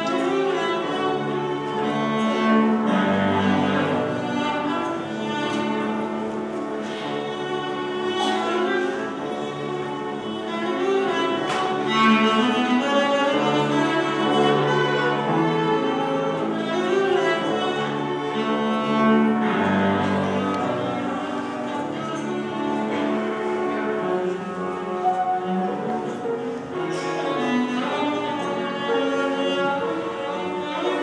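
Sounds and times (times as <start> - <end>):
cello bowed melody: 0.0 - 31.0.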